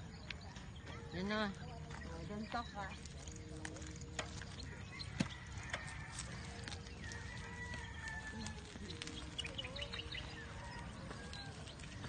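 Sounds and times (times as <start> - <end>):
bicycle rumbling on paved road: 0.0 - 12.0.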